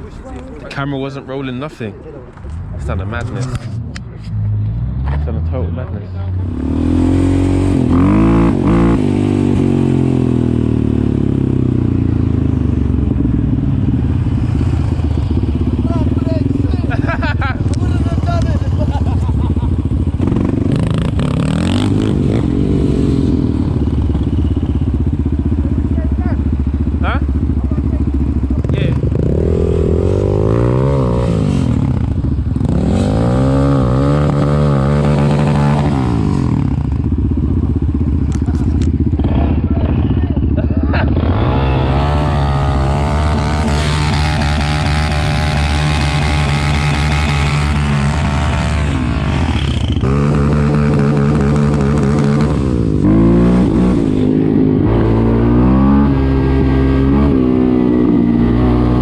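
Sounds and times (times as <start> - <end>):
quad bike engine revving and idling: 4.9 - 59.0.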